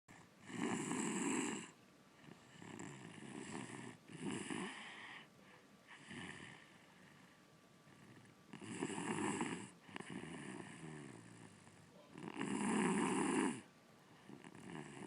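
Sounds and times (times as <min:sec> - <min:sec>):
child snoring: 0:00.1 - 0:05.3, 0:05.9 - 0:07.2, 0:07.8 - 0:15.0.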